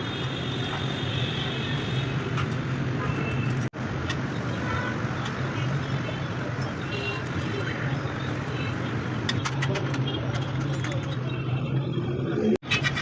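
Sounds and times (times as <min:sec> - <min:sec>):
street traffic with engine hum: 0:00.0 - 0:13.0.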